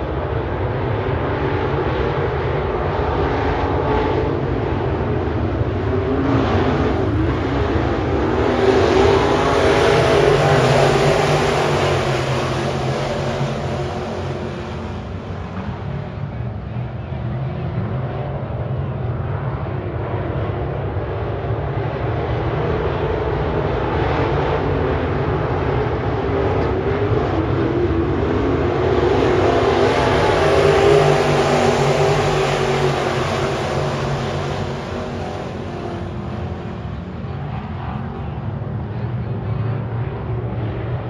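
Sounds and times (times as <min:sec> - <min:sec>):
race car engines roaring past: 0:00.0 - 0:41.0.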